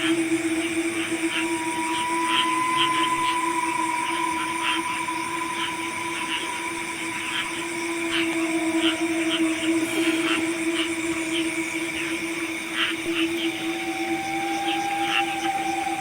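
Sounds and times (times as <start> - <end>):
insects and frogs droning: 0.0 - 16.0.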